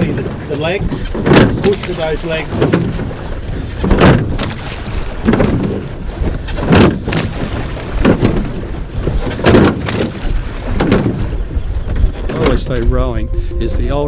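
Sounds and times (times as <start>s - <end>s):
oars swishing through water: 0.0s - 13.5s
wind rumbling on microphone: 0.0s - 14.0s.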